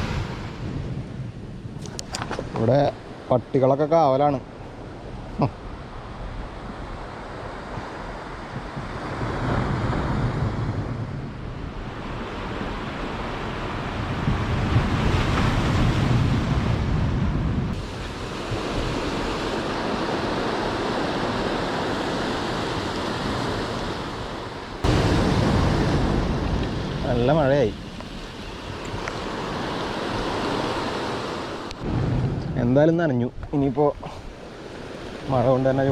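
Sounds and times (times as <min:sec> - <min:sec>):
surf washing onto beach: 0:00.0 - 0:01.2, 0:01.8 - 0:35.9
wind buffeting microphone: 0:00.0 - 0:03.5, 0:04.4 - 0:35.9.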